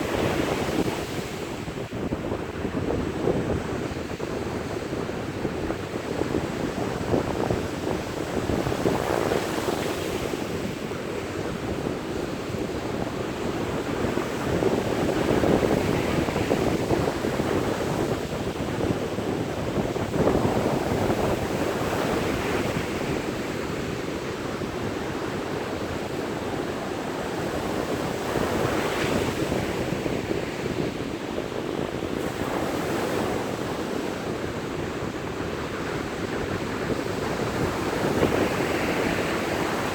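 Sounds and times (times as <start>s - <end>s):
surf breaking on a beach: 0.0s - 39.9s.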